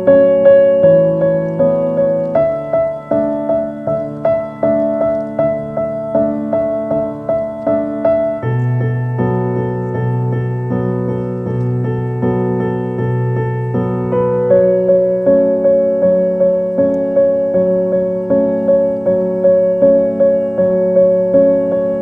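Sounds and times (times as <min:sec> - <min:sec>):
gentle piano chords: 0:00.0 - 0:22.0.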